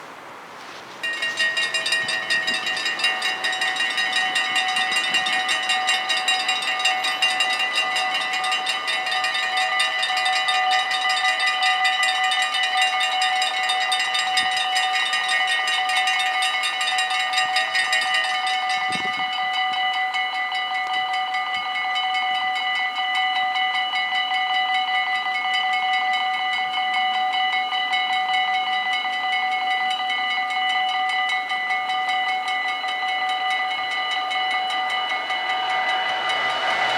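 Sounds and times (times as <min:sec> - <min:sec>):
level crossing warning bells ringing: 0:00.6 - 0:36.9.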